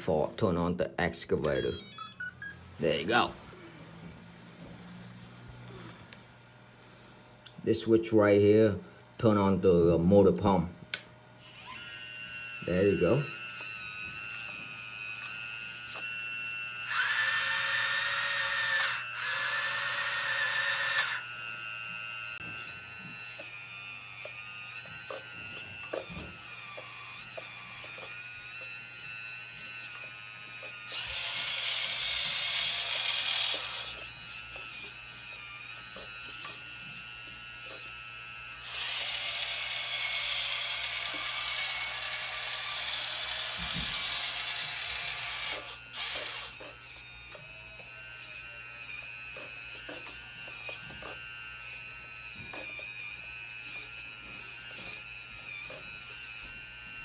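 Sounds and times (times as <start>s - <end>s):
electric pump whining: 8.4s - 57.0s.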